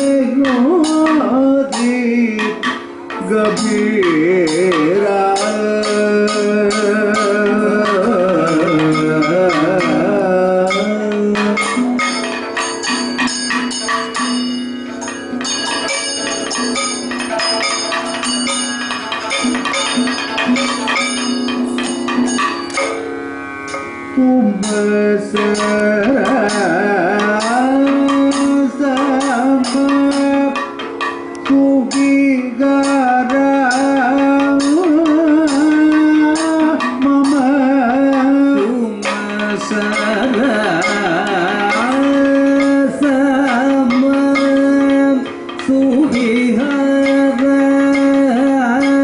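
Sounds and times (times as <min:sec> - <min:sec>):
held musical tones: 0:00.0 - 0:49.0
man singing with ornamented bends: 0:00.0 - 0:49.0
rhythmic percussion strikes: 0:00.0 - 0:49.0.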